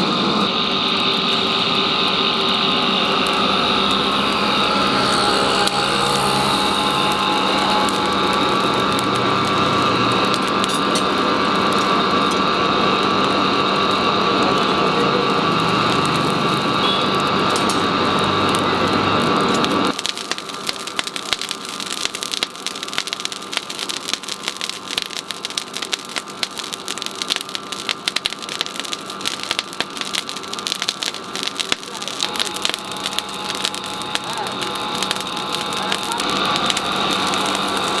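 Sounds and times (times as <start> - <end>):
burning coals crackling and popping: 0.0 - 38.0
forge blower rushing hum: 0.0 - 38.0.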